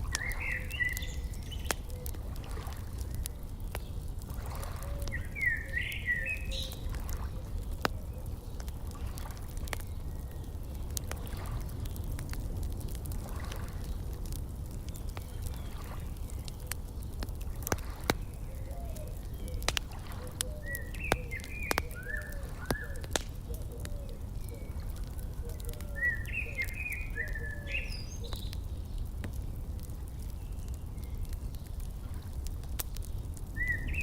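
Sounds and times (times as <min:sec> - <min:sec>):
small birds chirping: 0:00.0 - 0:34.0
wood fire crackling and popping: 0:00.0 - 0:34.0.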